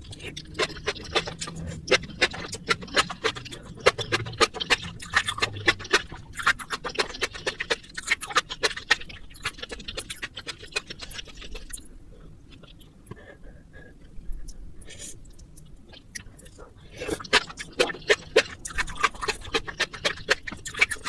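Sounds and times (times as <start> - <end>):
wet chewing of noodles: 0.0 - 21.0.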